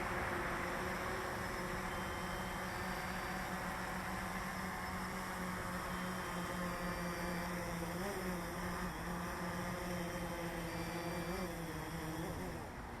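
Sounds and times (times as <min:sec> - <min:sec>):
drone motors buzzing: 0:00.0 - 0:13.0.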